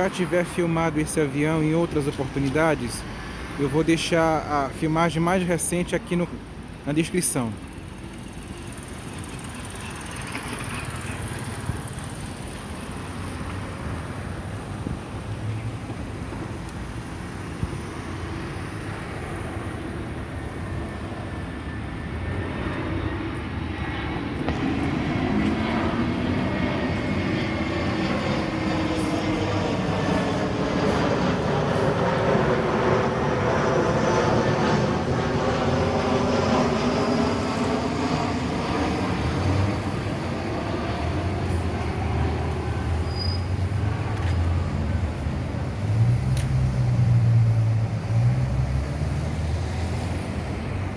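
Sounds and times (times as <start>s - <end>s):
jet engines passing overhead: 0.0s - 50.9s.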